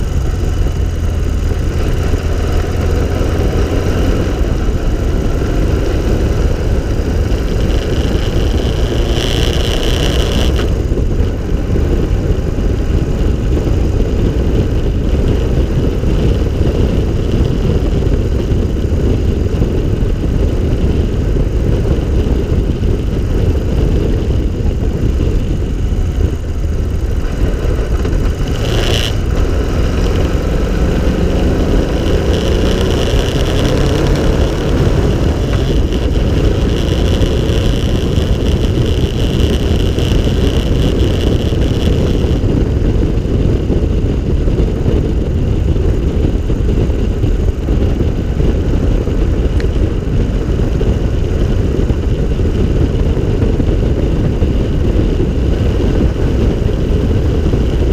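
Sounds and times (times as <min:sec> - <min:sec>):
car engine running: 0:00.0 - 0:57.9
wind buffeting microphone: 0:00.0 - 0:57.9.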